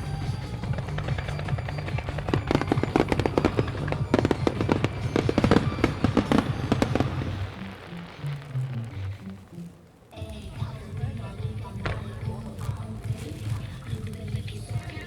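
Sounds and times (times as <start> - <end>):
bass-heavy music: 0.0 - 15.0
fireworks bursting and crackling: 0.0 - 15.0.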